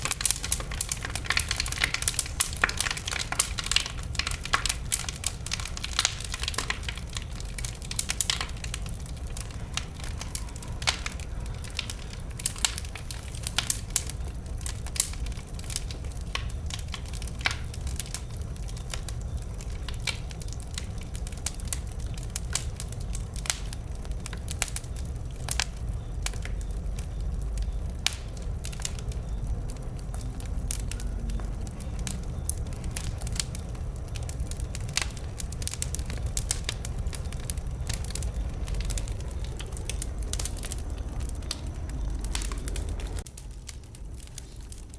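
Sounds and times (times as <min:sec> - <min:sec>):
bonfire crackling and popping: 0:00.0 - 0:44.9
low steady fire rumble: 0:00.0 - 0:44.9.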